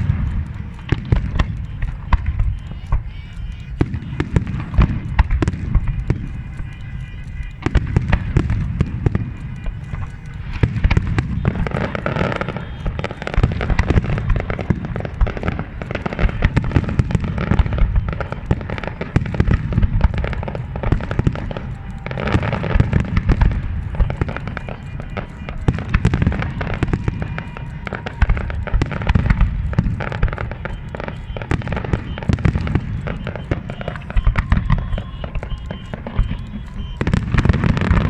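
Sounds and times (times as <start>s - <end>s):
fireworks booms and bangs: 0.0s - 38.0s
fireworks crackling: 0.0s - 38.0s.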